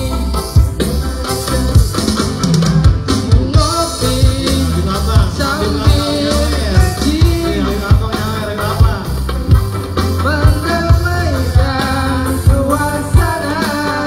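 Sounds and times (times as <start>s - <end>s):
person singing: 0.0s - 9.5s, 10.1s - 14.0s
strong drum beat: 0.0s - 14.0s
sustained instrumental backing: 0.0s - 14.0s.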